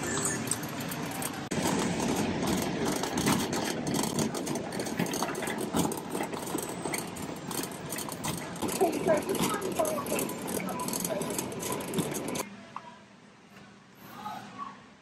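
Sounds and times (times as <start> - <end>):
shopping cart rattling on concrete: 0.0 - 12.4.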